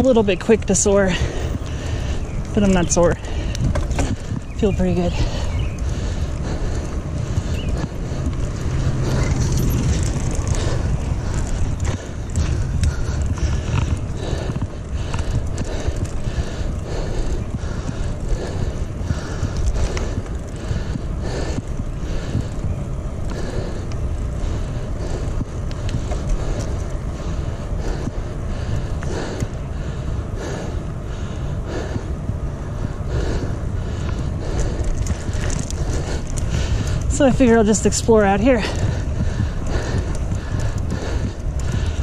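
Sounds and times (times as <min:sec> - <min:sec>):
bicycle tyre road noise: 0:00.0 - 0:42.0
wind rumbling on microphone: 0:00.0 - 0:42.0.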